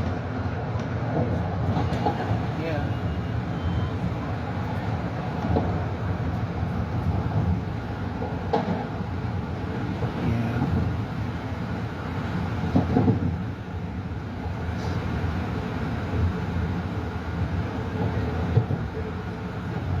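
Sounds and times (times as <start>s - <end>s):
train clunks: 0.0s - 11.4s, 12.2s - 13.8s, 16.0s - 20.0s
train wheels rumbling on rail: 0.0s - 20.0s.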